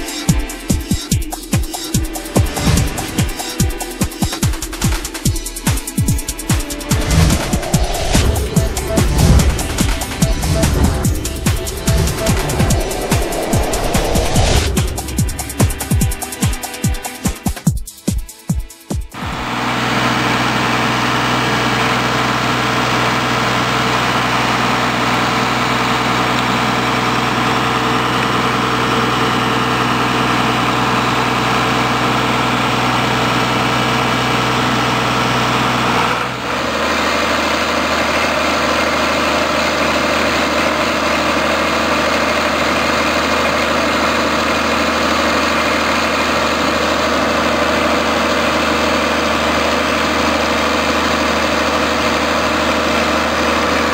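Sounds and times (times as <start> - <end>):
dredger engine running: 6.2 - 16.4, 19.2 - 53.9.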